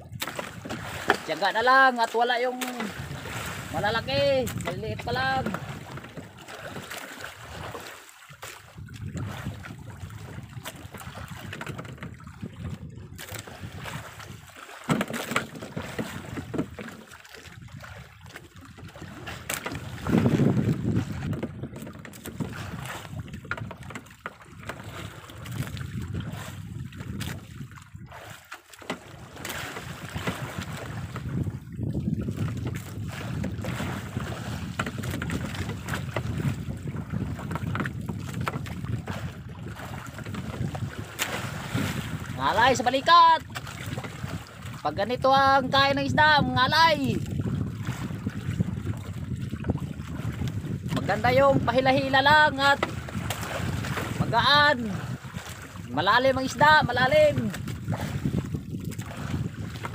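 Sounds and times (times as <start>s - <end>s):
knocks and rustles of fishing line: 0.0s - 1.4s, 2.0s - 3.8s, 4.4s - 42.4s, 43.4s - 44.8s, 47.2s - 51.1s, 52.7s - 54.3s, 57.4s - 59.9s
wind buffeting microphone: 0.0s - 14.6s, 15.4s - 28.4s, 29.1s - 59.9s
water lapping at boat: 0.0s - 59.9s.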